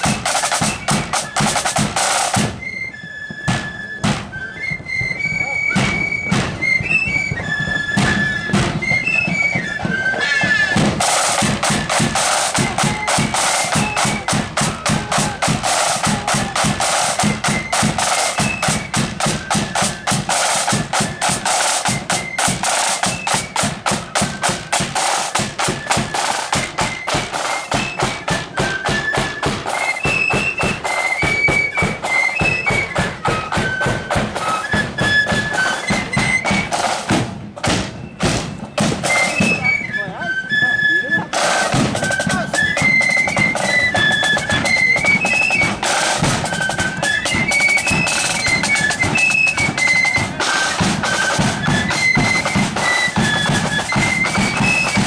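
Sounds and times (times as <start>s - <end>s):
rapid snare drumming: 0.0s - 2.7s, 3.4s - 40.1s, 41.2s - 55.0s
shrill flutes playing tune: 0.0s - 55.0s.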